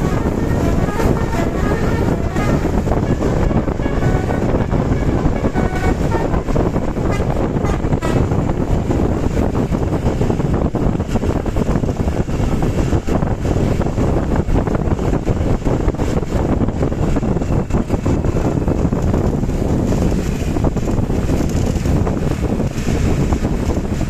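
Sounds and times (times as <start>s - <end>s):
vehicle noise: 0.0s - 24.0s
wind buffeting microphone: 0.0s - 24.0s.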